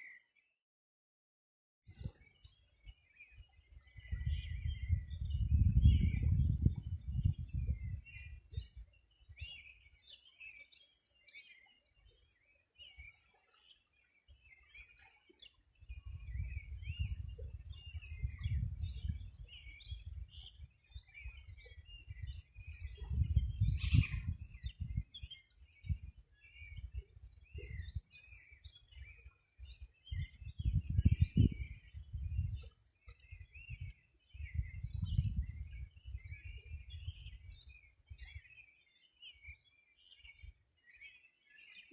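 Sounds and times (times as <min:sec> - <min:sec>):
birds chirping and singing: 0:02.0 - 0:41.9.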